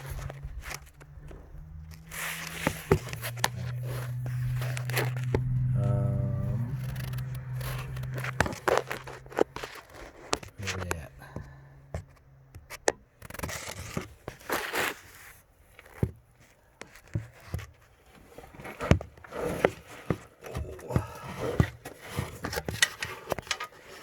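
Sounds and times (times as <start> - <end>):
close handling rustling and clicks: 0.0 - 24.0.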